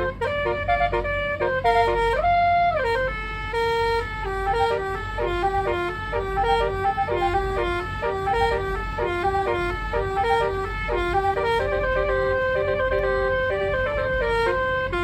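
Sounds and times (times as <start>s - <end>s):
multi-tone musical car horn: 0.0s - 15.0s.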